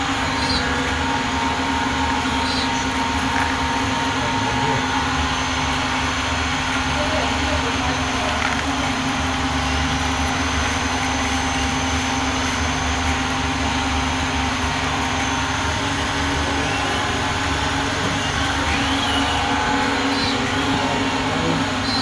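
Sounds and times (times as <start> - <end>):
small electric motor humming: 0.0 - 22.0.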